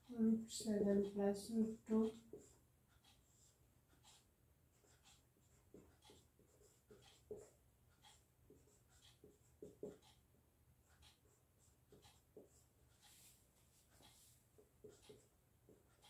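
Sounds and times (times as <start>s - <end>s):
marker pen squeaking on whiteboard: 2.0s - 10.2s, 10.8s - 16.0s.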